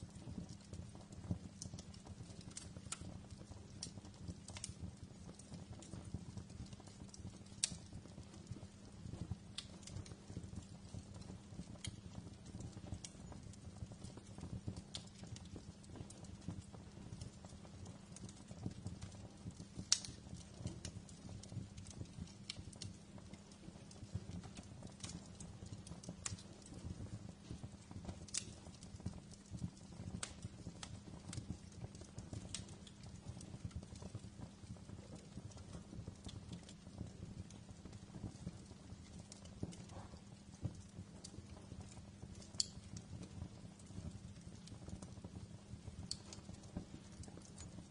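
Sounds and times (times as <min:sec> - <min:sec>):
low fire rumble: 0:00.0 - 0:47.9
wood fire crackling: 0:00.0 - 0:47.9.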